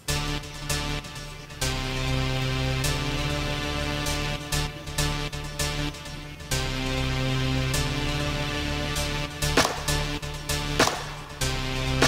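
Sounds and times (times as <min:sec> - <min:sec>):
electronic beat: 0:00.0 - 0:12.0
sustained synth tones: 0:00.0 - 0:12.0.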